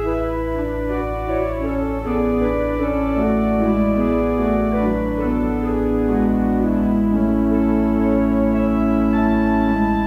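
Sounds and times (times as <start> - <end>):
organ playing sustained chords: 0.0 - 10.0.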